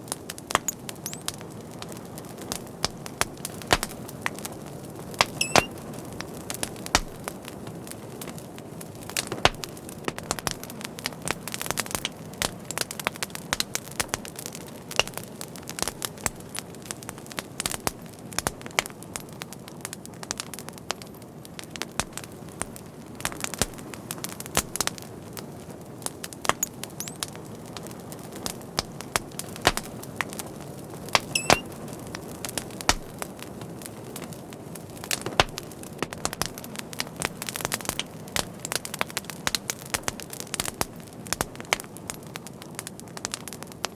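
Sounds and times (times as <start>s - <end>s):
fire crackling and popping: 0.0s - 43.9s.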